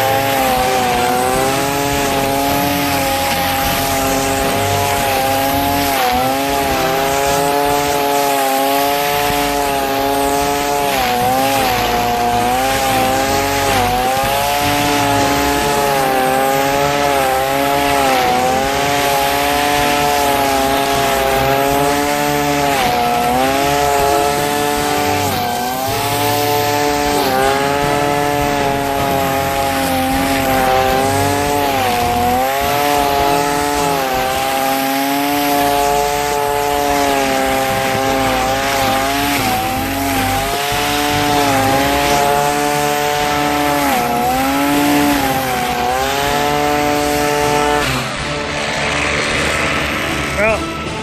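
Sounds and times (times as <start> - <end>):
string trimmer engine at high throttle: 0.0 - 51.0.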